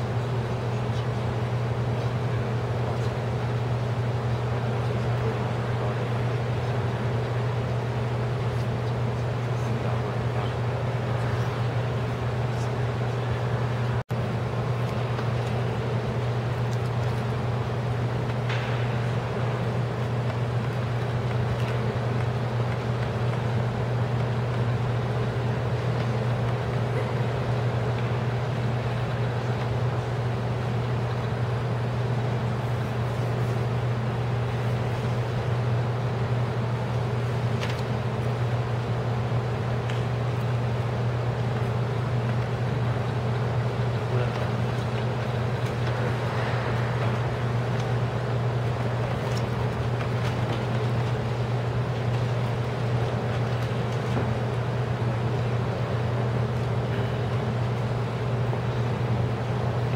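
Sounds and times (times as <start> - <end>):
machine drone with hiss: 0.0 - 59.9.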